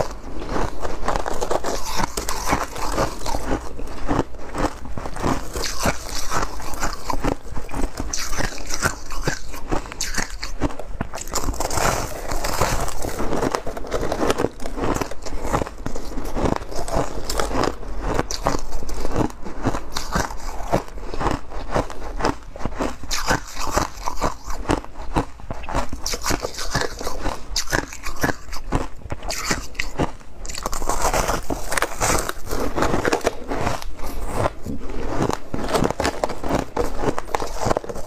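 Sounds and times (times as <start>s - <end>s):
person crunching ice: 0.0s - 38.0s.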